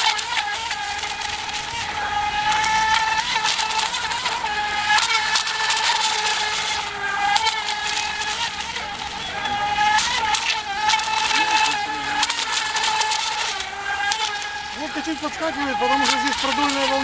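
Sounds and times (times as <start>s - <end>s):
model speedboat motor whining: 0.0s - 17.0s.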